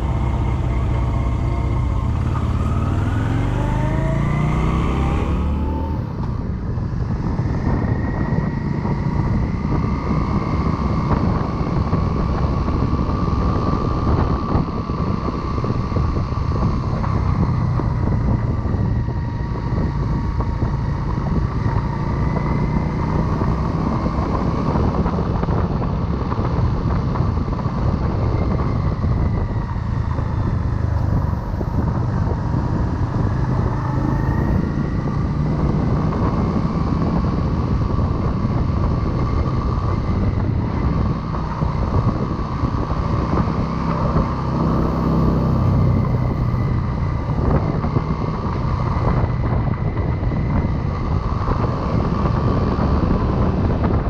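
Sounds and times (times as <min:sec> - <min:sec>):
motorcycle engine revving: 0:00.0 - 0:54.0
wind rumble: 0:00.0 - 0:54.0.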